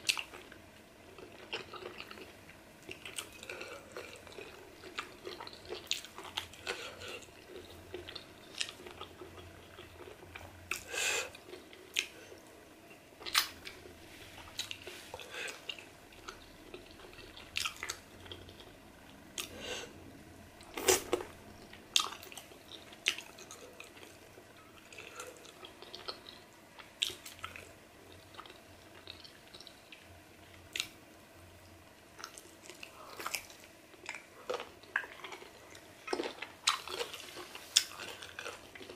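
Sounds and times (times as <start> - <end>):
person chewing with wet mouth sounds: 0.0 - 12.5, 13.2 - 19.9, 20.6 - 31.0, 32.2 - 38.9.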